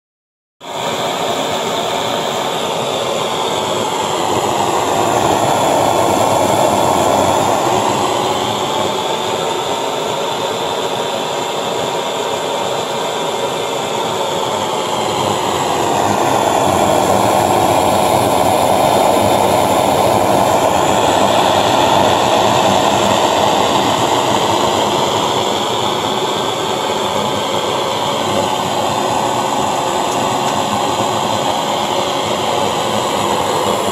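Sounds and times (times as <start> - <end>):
blow torch burner rushing: 0.6 - 33.9.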